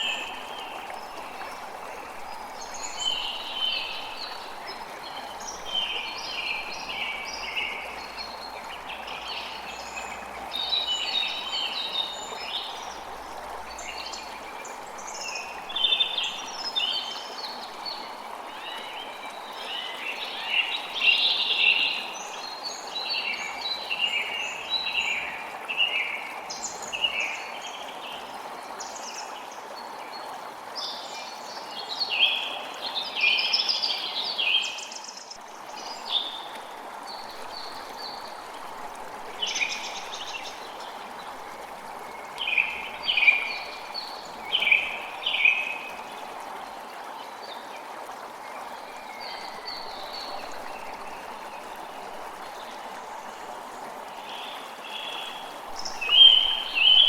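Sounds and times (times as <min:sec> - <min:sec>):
creek flowing: 0:00.0 - 0:57.0.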